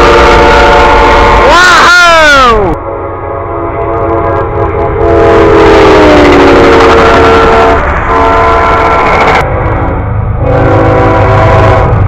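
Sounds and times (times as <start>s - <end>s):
locomotive air horn chord: 0.0s - 1.6s, 2.7s - 12.0s
train rumble: 0.0s - 12.0s.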